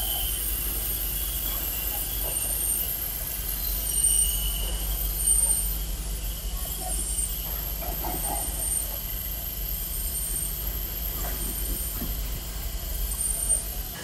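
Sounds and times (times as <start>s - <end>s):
faint high whine: 0.0s - 14.0s
laminating machine hum: 0.0s - 14.0s.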